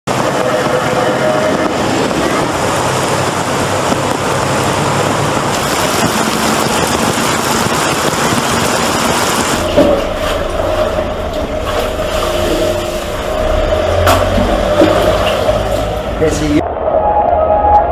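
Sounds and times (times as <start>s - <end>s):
torrential rain pouring: 0.1s - 16.8s.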